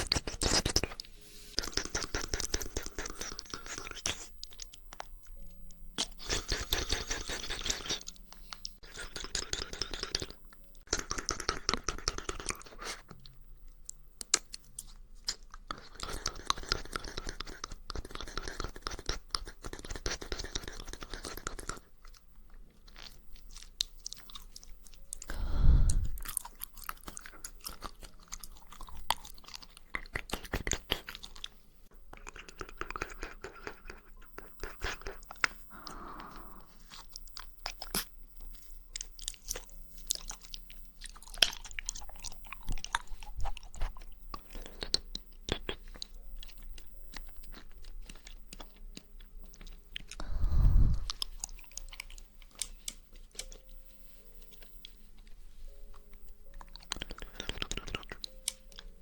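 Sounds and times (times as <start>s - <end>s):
wet mouth chewing jelly: 0.0s - 5.4s, 6.0s - 59.0s.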